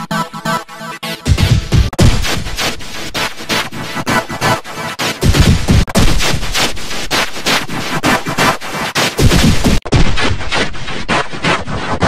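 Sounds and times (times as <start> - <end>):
harsh distorted crackling noise: 2.0 - 12.0.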